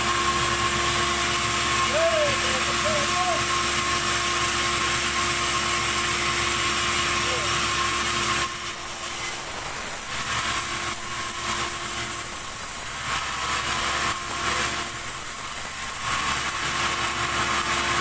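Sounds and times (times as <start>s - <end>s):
band saw cutting log: 0.0s - 18.0s.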